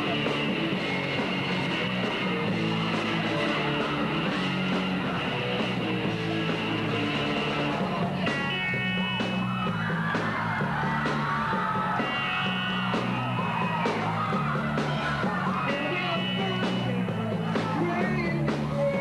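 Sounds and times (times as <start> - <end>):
bass guitar: 0.0 - 19.0
distorted electric guitar: 0.0 - 19.0
drums: 0.0 - 19.0.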